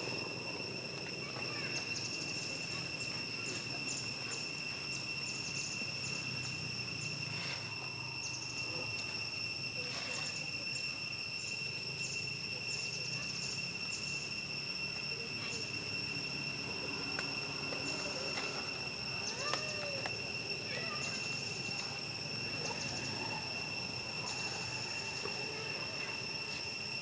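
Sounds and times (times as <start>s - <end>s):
insects droning: 0.0s - 27.0s
short insect chirp: 0.0s - 27.0s.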